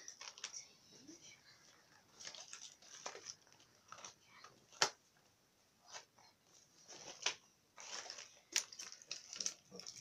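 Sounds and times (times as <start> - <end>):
faint rustling and handling: 0.0 - 10.0.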